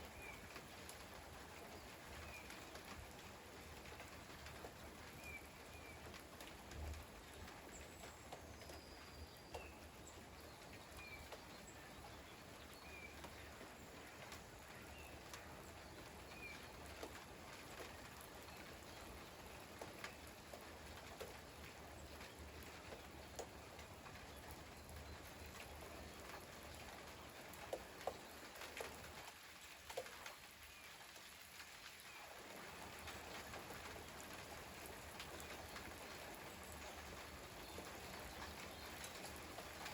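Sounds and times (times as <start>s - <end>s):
light rain hissing: 0.0s - 39.9s
water drips: 0.1s - 39.9s.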